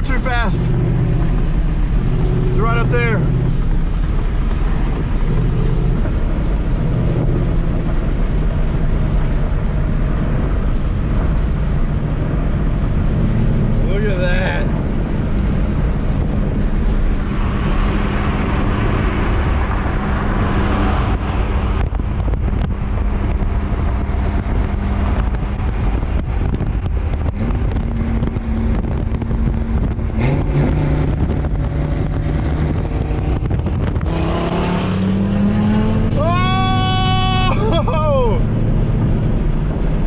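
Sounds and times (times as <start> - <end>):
car engine running: 0.0 - 40.0
road noise: 0.0 - 40.0.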